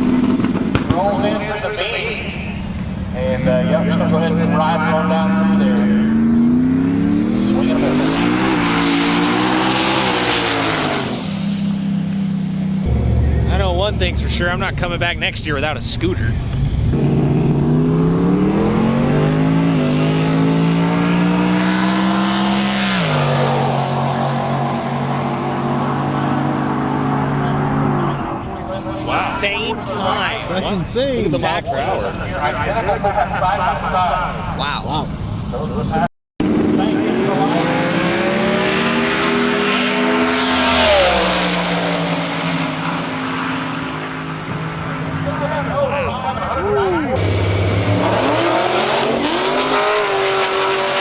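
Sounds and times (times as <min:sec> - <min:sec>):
race car accelerating: 0:00.0 - 0:51.0.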